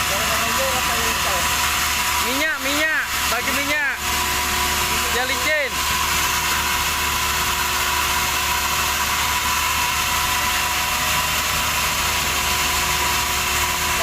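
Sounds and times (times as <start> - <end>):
sawmill machinery drone: 0.0 - 14.0.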